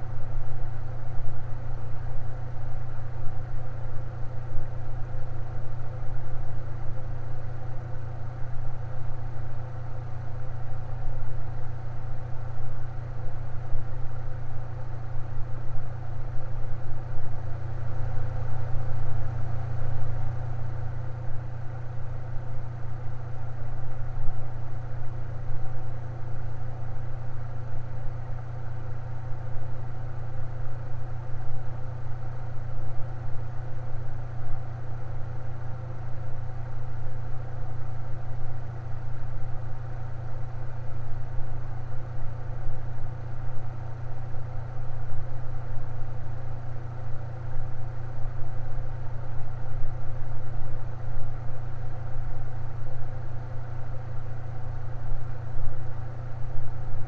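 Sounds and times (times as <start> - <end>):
electric fan humming: 0.0 - 57.0.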